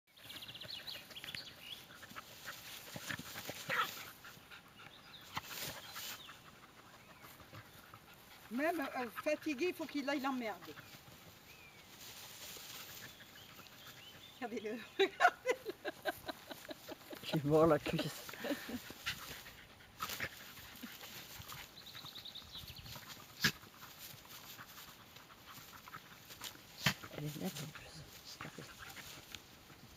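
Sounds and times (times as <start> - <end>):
scuffling and rustling in grass: 0.2 - 14.6, 15.5 - 29.9
dogs panting: 0.2 - 29.9.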